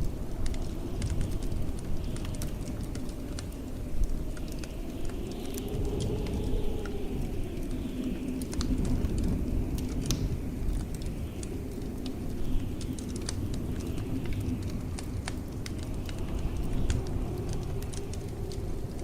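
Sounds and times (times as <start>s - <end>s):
blizzard wind rumbling: 0.0s - 19.0s
wood fire crackling and popping: 0.0s - 19.0s.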